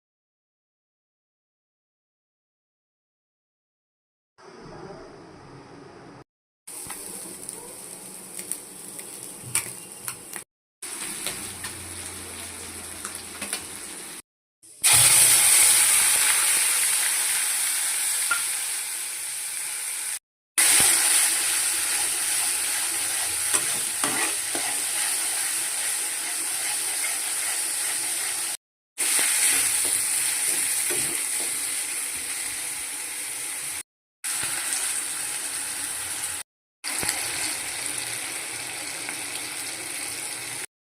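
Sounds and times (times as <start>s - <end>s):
fish sizzling in hot oil: 6.7s - 40.7s.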